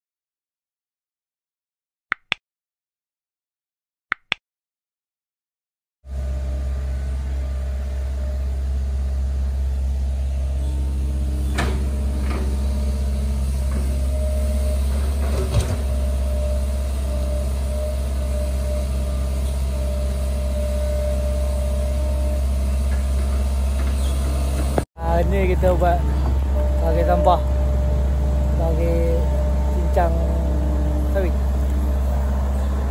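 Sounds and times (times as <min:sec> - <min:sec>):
excavator diesel engine humming: 0:06.1 - 0:32.9.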